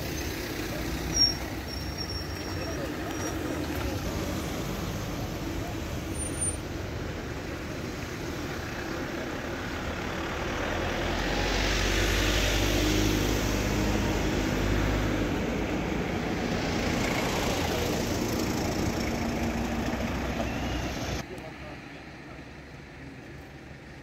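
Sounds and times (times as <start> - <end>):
traffic crawling past: 0.0 - 24.0
tyres on asphalt: 0.0 - 24.0.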